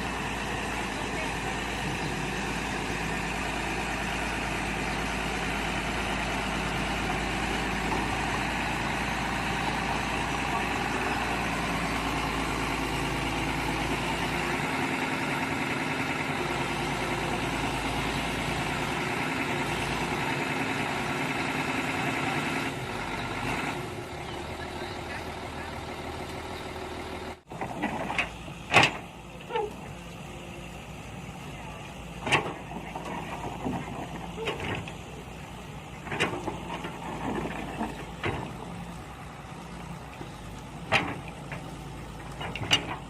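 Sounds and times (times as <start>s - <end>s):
excavator engine running: 0.0s - 43.0s.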